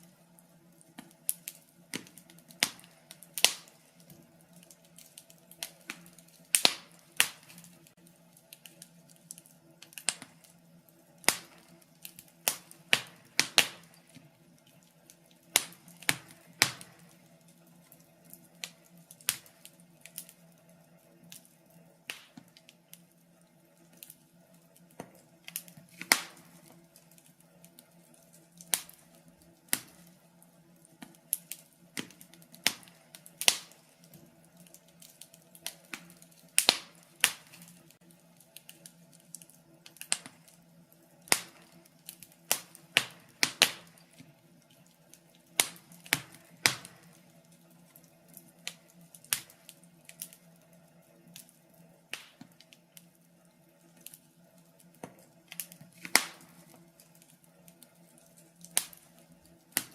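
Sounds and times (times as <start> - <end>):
faint steady hum: 0.0 - 59.9
wood fire crackling and popping: 0.0 - 59.9.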